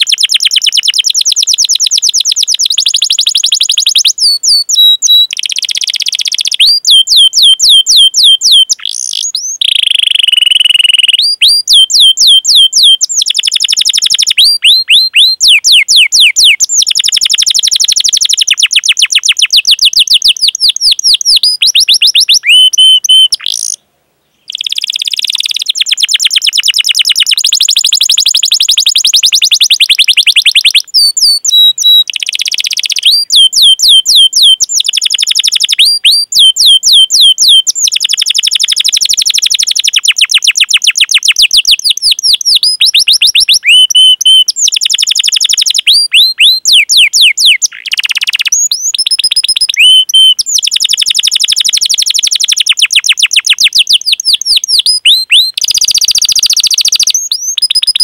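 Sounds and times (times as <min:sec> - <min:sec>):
swooping bird chirps: 0:00.0 - 0:23.8, 0:24.4 - 0:58.0
canary singing rolling trills: 0:00.0 - 0:58.0.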